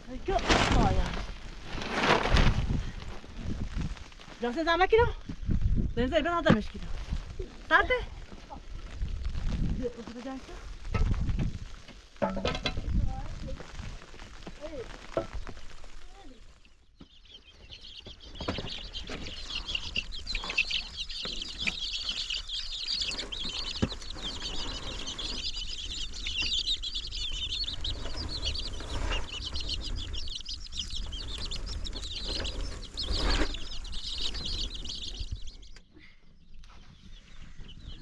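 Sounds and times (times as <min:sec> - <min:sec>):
flock of birds chattering: 0:04.0 - 0:38.0.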